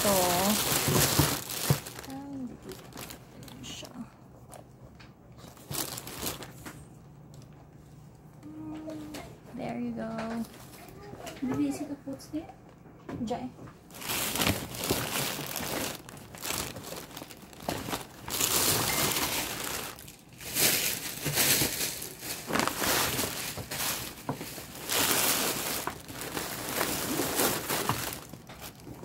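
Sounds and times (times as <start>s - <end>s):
plastic and paper rustling: 0.0s - 8.1s, 8.7s - 11.9s, 13.8s - 29.0s.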